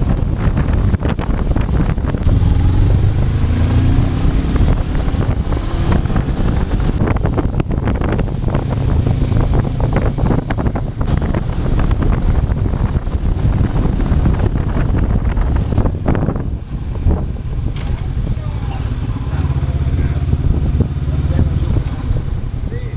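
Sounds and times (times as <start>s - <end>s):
motorcycle engine rumble: 0.0s - 22.9s
wind buffeting microphone: 0.0s - 22.9s.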